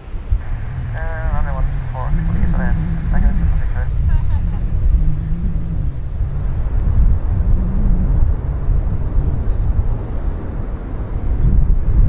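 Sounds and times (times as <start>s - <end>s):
jet airliner engines rumbling: 0.0s - 12.0s.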